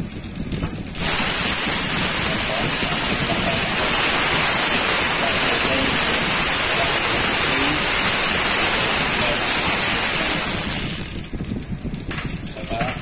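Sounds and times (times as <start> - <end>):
bicycle chain whirring: 0.0 - 13.0.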